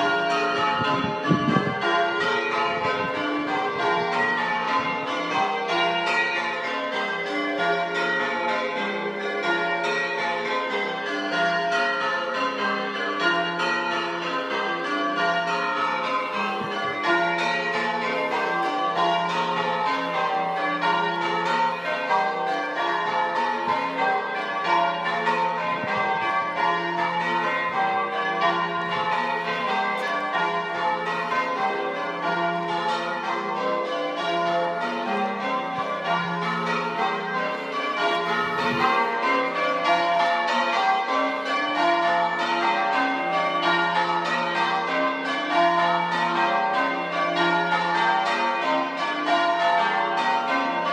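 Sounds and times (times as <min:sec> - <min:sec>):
church bells ringing: 0:00.0 - 0:50.9.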